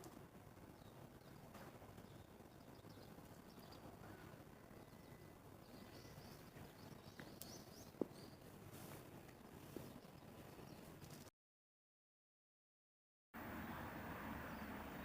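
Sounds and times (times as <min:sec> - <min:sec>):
faint outdoor ambience: 0:00.0 - 0:11.3, 0:13.4 - 0:15.0.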